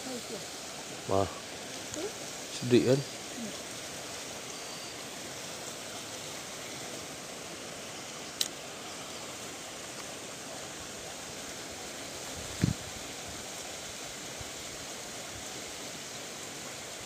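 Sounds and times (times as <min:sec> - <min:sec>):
water running through channel: 0:00.0 - 0:17.0.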